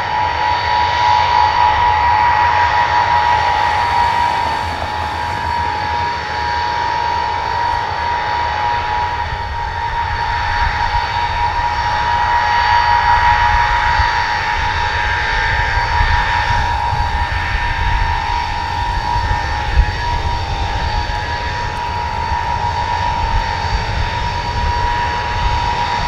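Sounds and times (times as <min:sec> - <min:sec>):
jet engines whining and rumbling: 0:00.0 - 0:26.0.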